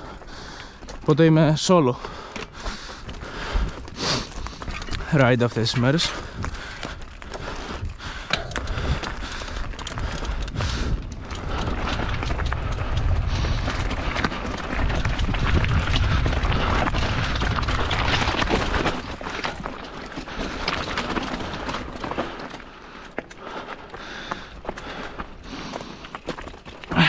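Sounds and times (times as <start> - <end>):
bike rattling over rocks: 0.0 - 27.0
tyres crunching over stones: 0.0 - 27.0.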